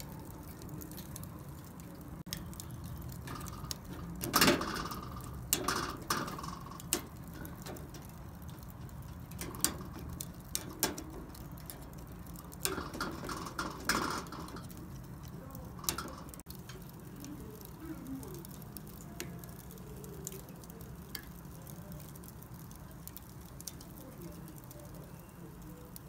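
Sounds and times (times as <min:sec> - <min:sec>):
chicken crackling and popping on grill: 0:00.0 - 0:26.0
low steady hiss: 0:00.0 - 0:26.0.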